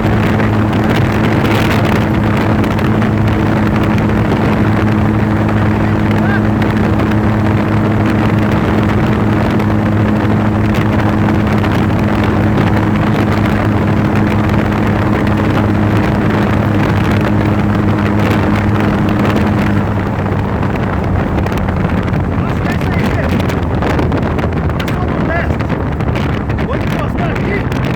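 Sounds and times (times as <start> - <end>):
road noise: 0.0 - 27.9
trike engine hum: 0.0 - 27.9
wind rush on microphone: 0.0 - 27.9.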